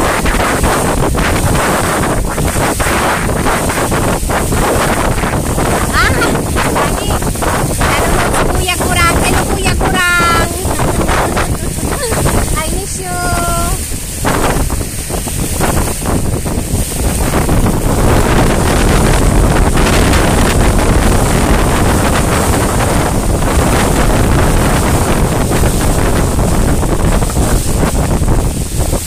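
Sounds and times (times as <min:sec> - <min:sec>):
water rushing along boat hull: 0:00.0 - 0:29.0
wind buffeting microphone: 0:00.0 - 0:29.0.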